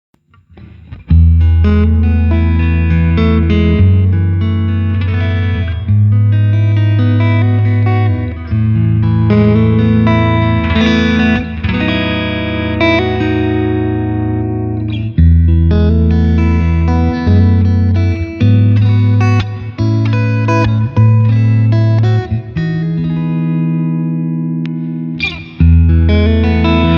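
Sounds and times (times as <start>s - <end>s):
electric guitar chords: 0.3s - 26.9s.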